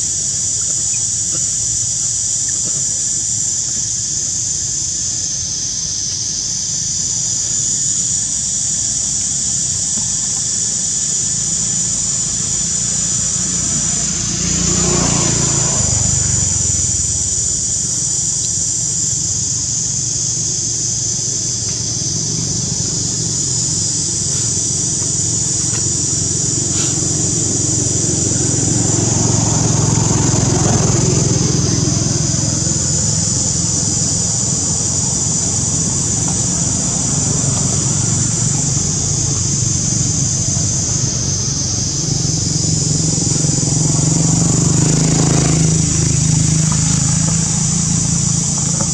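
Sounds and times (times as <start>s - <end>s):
traffic engine drone: 0.0s - 48.9s.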